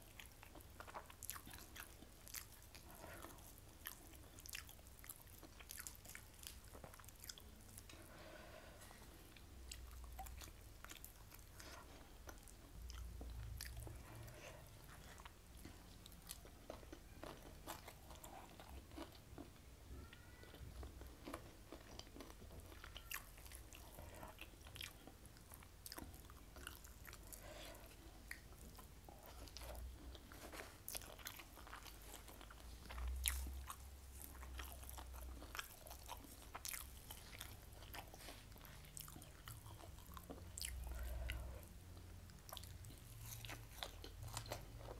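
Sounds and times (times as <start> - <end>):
soft chewing: 0.0 - 44.9.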